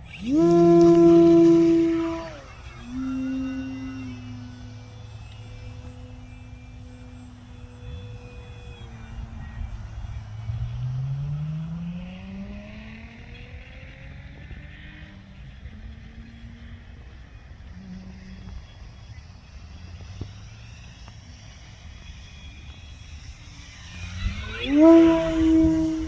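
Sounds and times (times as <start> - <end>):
model airplane motor and propeller: 0.0 - 26.0.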